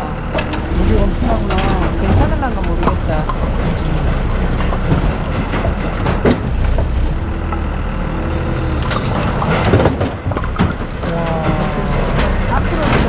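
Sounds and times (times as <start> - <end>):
forklift engine running: 0.0 - 13.0
sharp knocks: 0.2 - 13.0.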